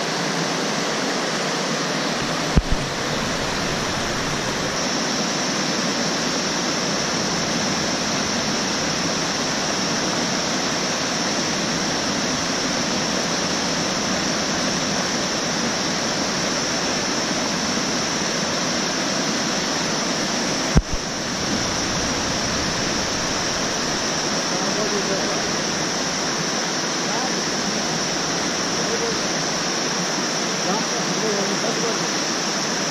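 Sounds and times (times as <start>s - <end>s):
river rushing over rapids: 0.0s - 32.9s.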